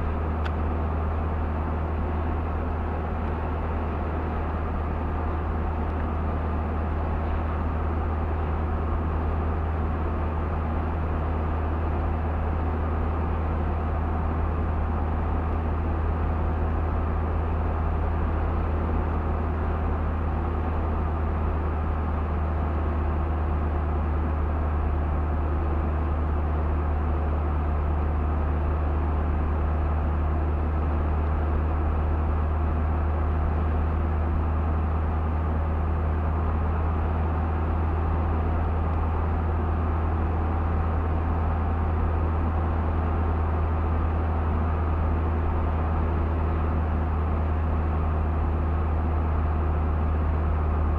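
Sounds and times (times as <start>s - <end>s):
car engine and road drone: 0.0s - 50.9s.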